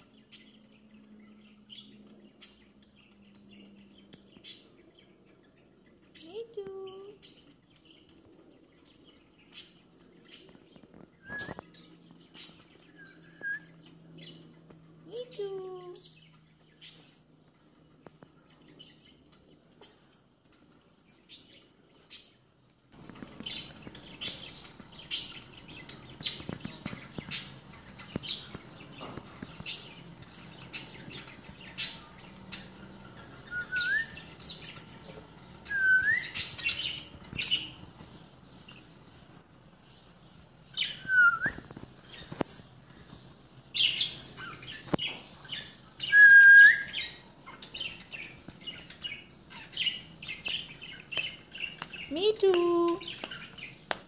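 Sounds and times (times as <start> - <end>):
parakeets chirping and chattering: 0.0 - 54.0.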